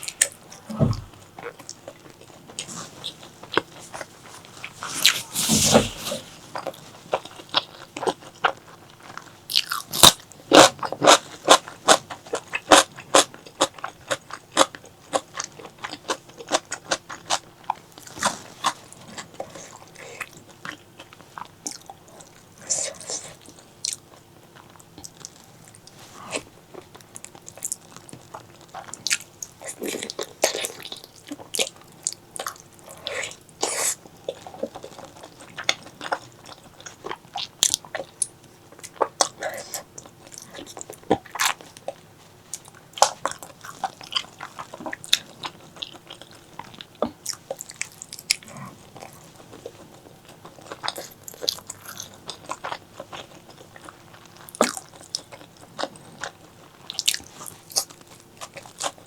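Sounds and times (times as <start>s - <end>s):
close chewing and mouth clicks: 0.0s - 59.0s.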